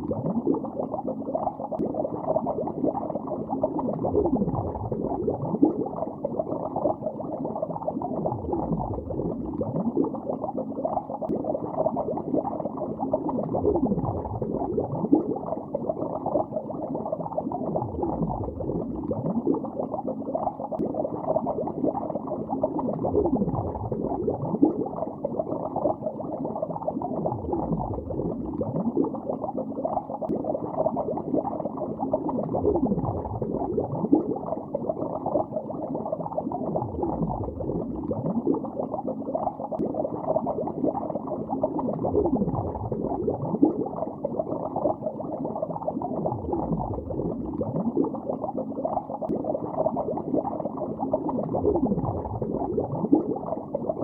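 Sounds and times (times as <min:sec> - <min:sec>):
underwater bubbles gurgling: 0:00.0 - 0:54.0.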